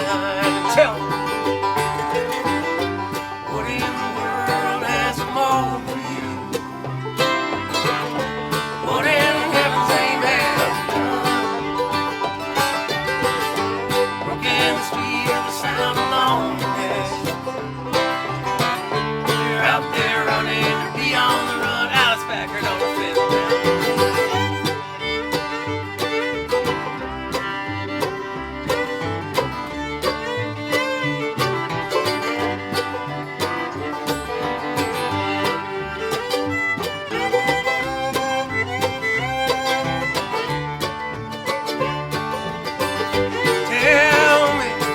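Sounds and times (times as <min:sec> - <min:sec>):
acoustic string band playing: 0:00.0 - 0:44.9.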